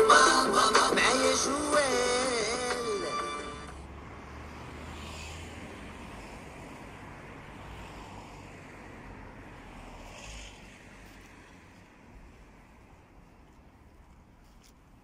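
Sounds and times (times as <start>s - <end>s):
distant traffic: 0.0s - 15.0s.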